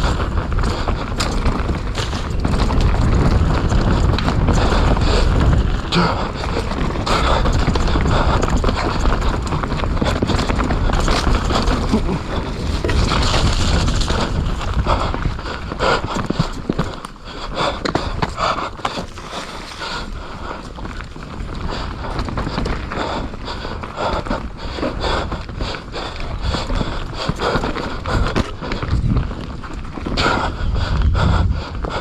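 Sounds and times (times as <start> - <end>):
wind rushing over microphone: 0.0 - 18.8, 19.5 - 32.0
bike clicks and rattles: 0.0 - 32.0.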